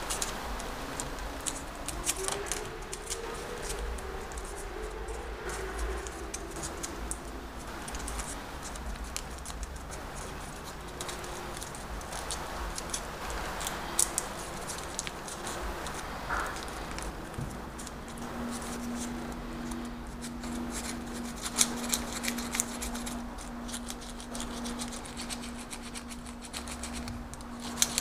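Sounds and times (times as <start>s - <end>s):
paper money crinkling: 0.0s - 28.0s.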